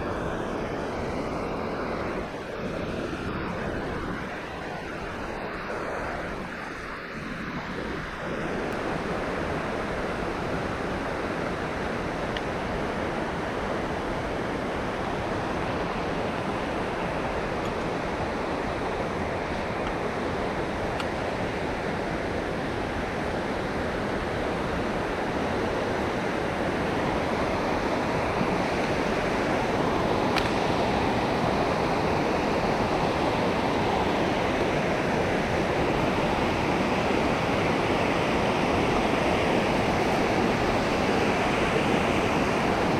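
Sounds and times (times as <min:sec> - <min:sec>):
rushing river water: 0:00.0 - 0:42.9.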